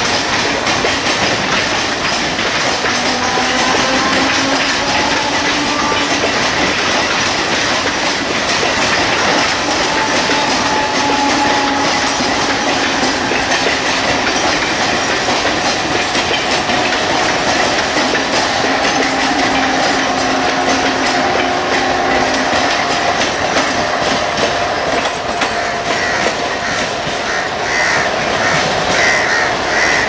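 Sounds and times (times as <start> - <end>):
train wheels on rail: 0.0 - 30.0.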